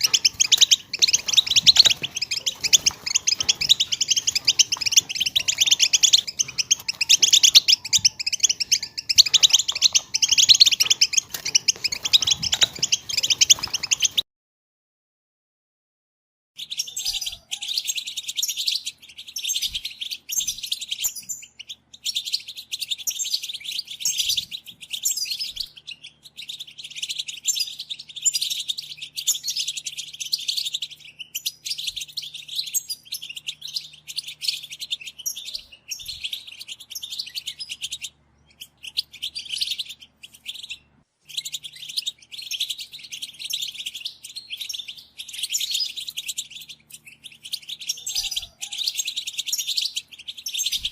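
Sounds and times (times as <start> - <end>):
bird twittering song: 0.0 - 14.2, 16.6 - 50.9.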